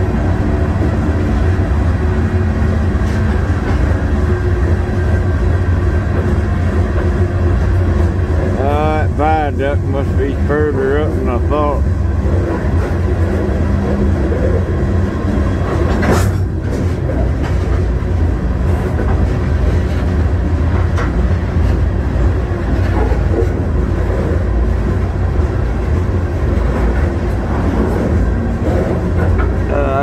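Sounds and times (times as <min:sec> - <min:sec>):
train rumbling and rattling: 0:00.0 - 0:30.0.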